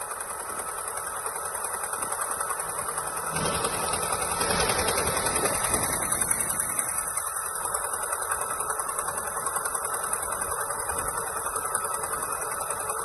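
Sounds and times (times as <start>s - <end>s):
concrete machinery motor pulsing: 0.0s - 13.0s
high machine whine: 0.0s - 13.0s.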